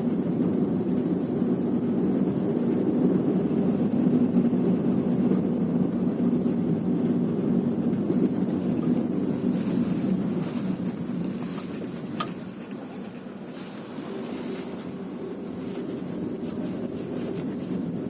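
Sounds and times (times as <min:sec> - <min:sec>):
car interior road and engine rumble: 0:00.0 - 0:18.0.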